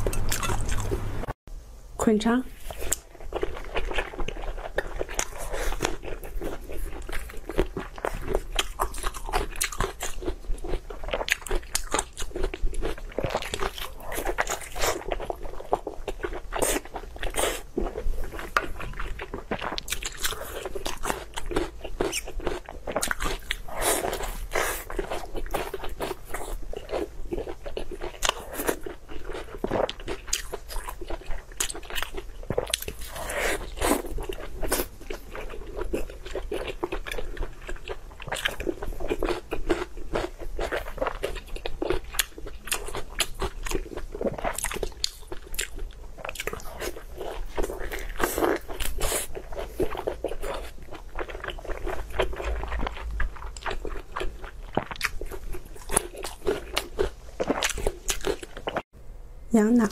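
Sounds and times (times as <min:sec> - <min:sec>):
wet crunchy chewing: 0:00.0 - 0:01.3, 0:02.6 - 0:58.8.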